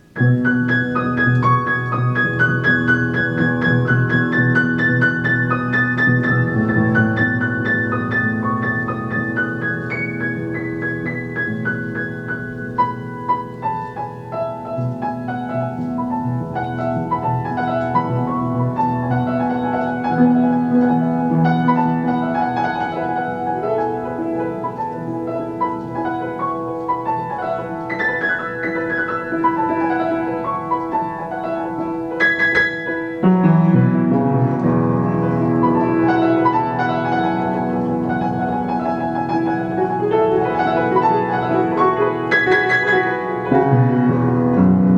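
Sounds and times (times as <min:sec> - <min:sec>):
piano playing: 0:00.0 - 0:44.9.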